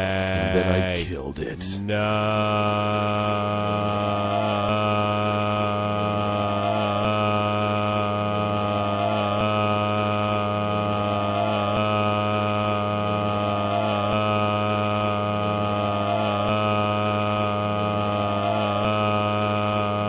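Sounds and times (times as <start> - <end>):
distorted looped buzzing drone: 0.0 - 20.0.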